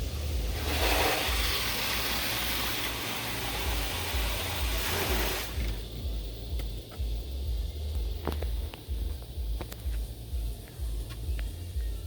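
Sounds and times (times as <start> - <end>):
water jets spraying on truck: 0.0 - 11.8
low rumble: 0.0 - 12.0.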